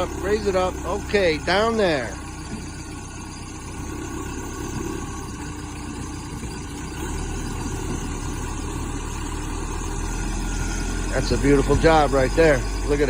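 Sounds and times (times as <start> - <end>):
backhoe engine running: 0.0 - 13.0.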